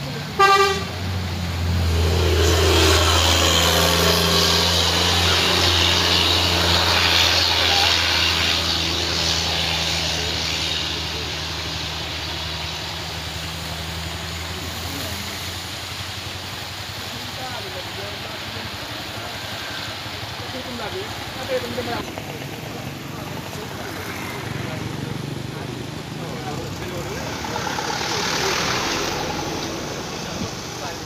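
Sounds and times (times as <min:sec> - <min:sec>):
diesel engine running: 0:00.0 - 0:31.0
traffic on wet road: 0:00.0 - 0:31.0.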